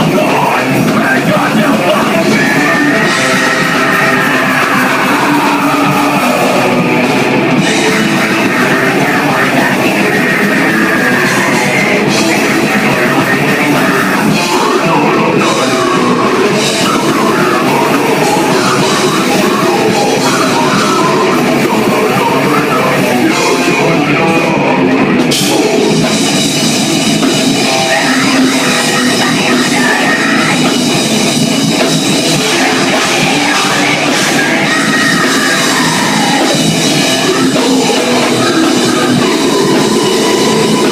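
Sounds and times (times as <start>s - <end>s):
distorted guitars: 0.0s - 40.9s
drum kit: 0.0s - 40.9s
heavy rock band playing: 0.0s - 40.9s.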